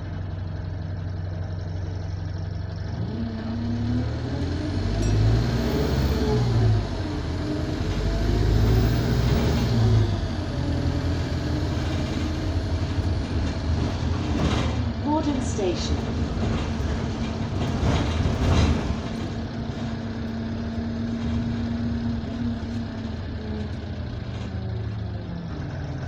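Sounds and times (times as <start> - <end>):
bus diesel engine revving: 0.0 - 26.0.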